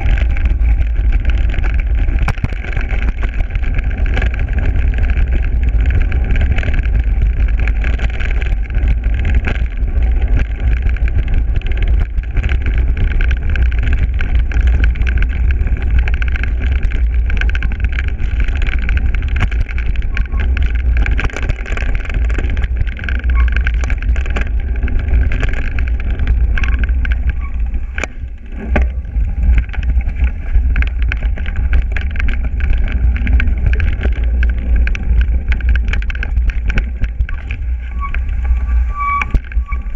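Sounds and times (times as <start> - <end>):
bike rattling over bumps: 0.0 - 39.9
wind rumble on microphone: 0.0 - 39.9.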